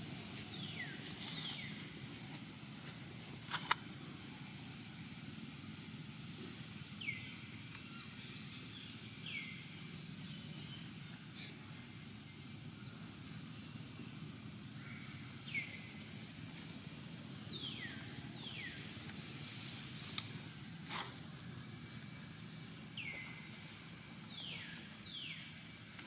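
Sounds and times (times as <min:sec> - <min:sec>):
outdoor background hum: 0:00.0 - 0:26.0.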